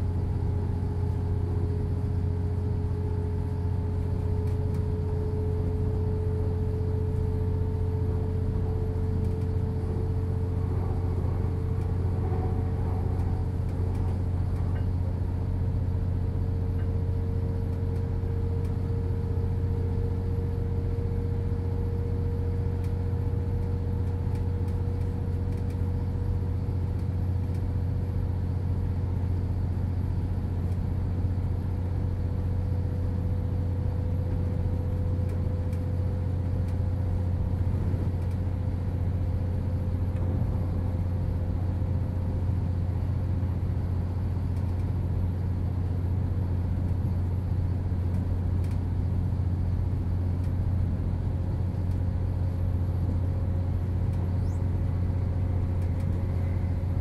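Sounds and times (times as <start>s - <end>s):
train engine low hum: 0.0s - 57.0s
train running noise: 0.0s - 57.0s.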